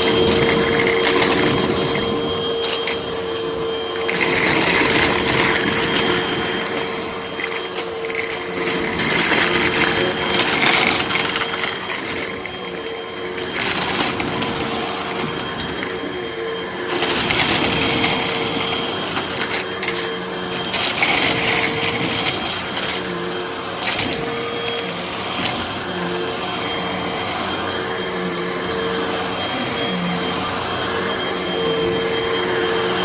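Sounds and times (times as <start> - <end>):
debris rattling into vacuum: 0.0 - 30.0
vacuum cleaner running: 0.0 - 33.0.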